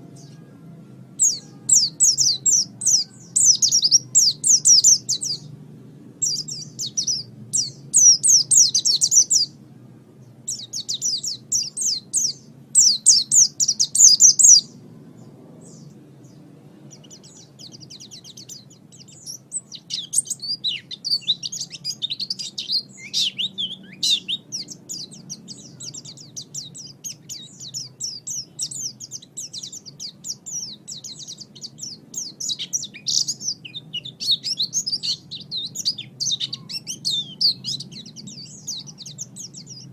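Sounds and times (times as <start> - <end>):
bird twittering song: 0.0 - 5.6, 6.2 - 9.6, 10.2 - 39.9.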